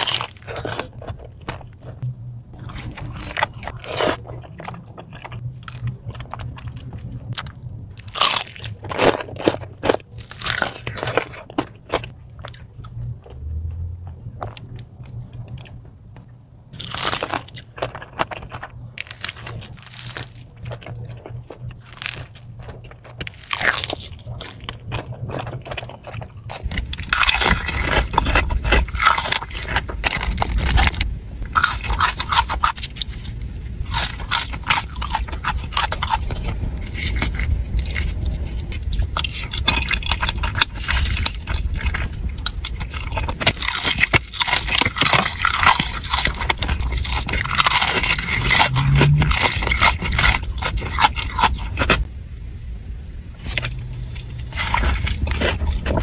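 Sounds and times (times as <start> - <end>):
chewing crispy fried chicken: 0.0 - 52.1, 53.4 - 56.0
crunching breading: 0.0 - 52.1, 53.4 - 56.0.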